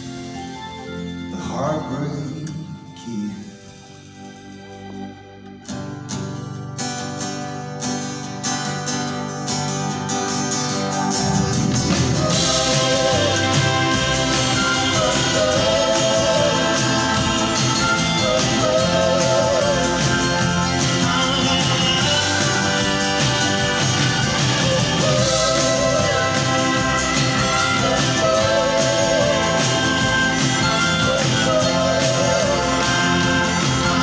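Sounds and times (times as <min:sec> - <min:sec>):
rock band playing: 0:00.0 - 0:01.9, 0:03.6 - 0:34.0
drums: 0:00.0 - 0:34.0
guitar chords: 0:00.0 - 0:34.0.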